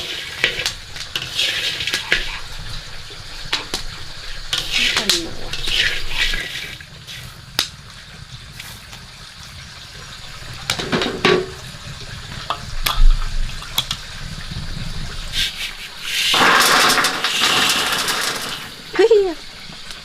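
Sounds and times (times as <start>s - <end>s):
water splashing and pouring: 0.0s - 20.0s.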